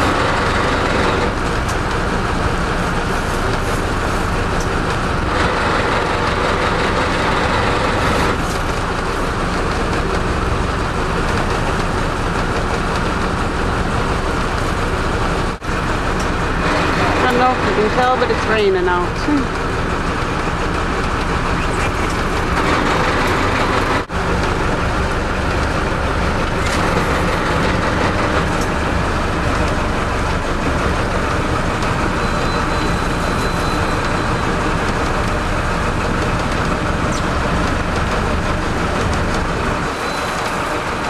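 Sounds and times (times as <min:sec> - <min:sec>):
boat engines rumbling: 0:00.0 - 0:41.0.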